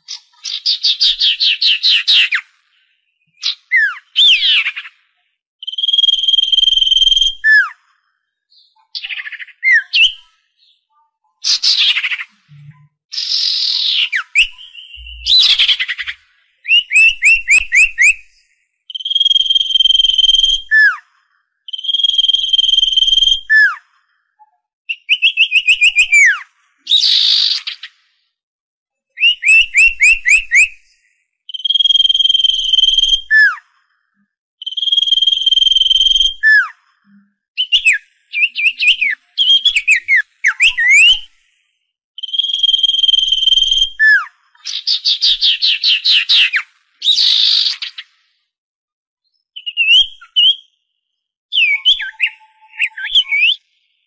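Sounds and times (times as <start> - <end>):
bird whistling song: 0.0 - 21.0, 21.7 - 28.0, 29.1 - 33.6, 34.6 - 41.6, 42.2 - 48.2, 49.2 - 50.8, 51.5 - 54.0.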